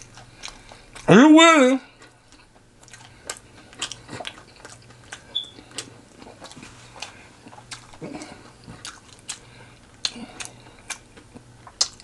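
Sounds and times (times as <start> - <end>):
mouth chewing food: 0.0 - 12.0.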